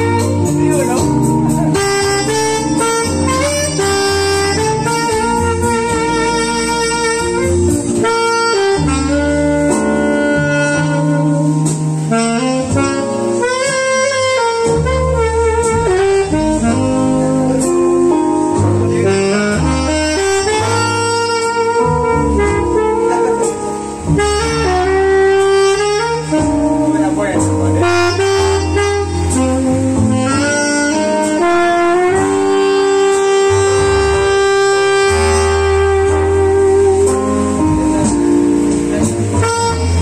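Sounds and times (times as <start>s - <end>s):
bass and chords accompaniment: 0.0s - 40.0s
jazzy saxophone melody: 0.0s - 40.0s.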